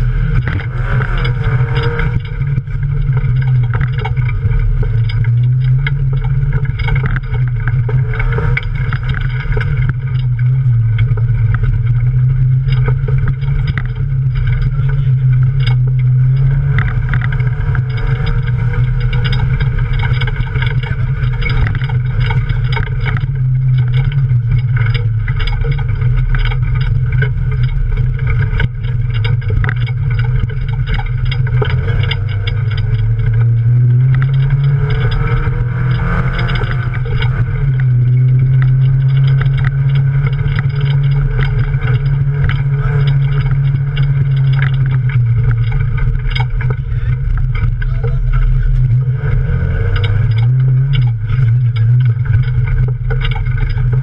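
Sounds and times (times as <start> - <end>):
race car engine droning: 0.0 - 54.0
short knocks and rattles: 0.0 - 54.0.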